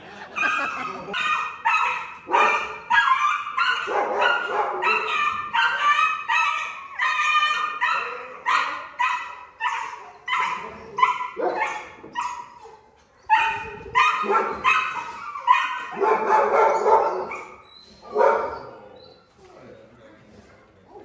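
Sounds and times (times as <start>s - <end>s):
dog barking: 0.4s - 12.4s, 13.3s - 18.6s.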